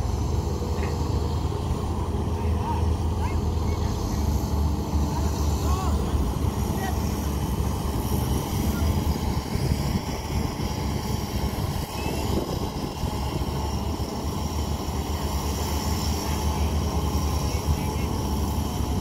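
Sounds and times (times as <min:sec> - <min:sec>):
heavy diesel engines droning: 0:00.0 - 0:19.0.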